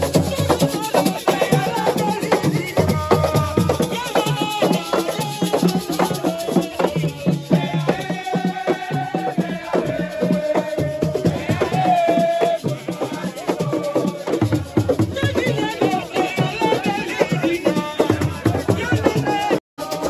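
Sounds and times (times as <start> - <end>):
fast drumming: 0.0 - 20.0.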